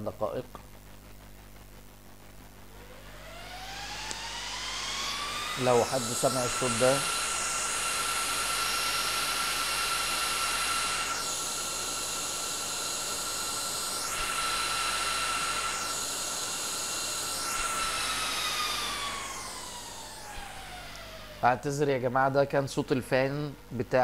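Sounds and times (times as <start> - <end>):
server cooling fans whining: 1.8 - 24.0.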